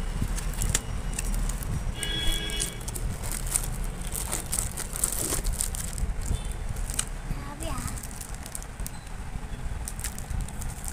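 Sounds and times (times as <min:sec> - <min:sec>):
paper packaging rustling: 0:00.2 - 0:09.0, 0:09.8 - 0:10.9.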